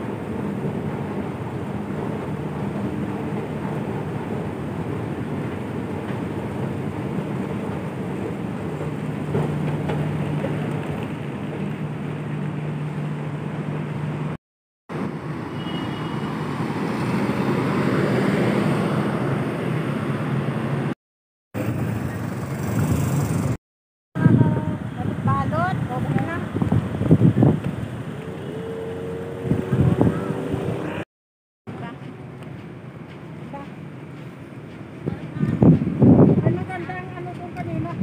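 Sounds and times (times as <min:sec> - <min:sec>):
city traffic noise: 0:00.0 - 0:21.0, 0:21.6 - 0:23.6, 0:24.2 - 0:31.0, 0:31.7 - 0:38.0.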